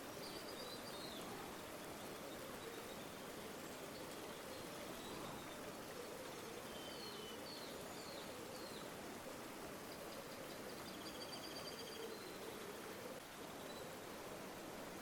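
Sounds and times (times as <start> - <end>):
river water flowing: 0.0 - 11.0, 12.2 - 15.0.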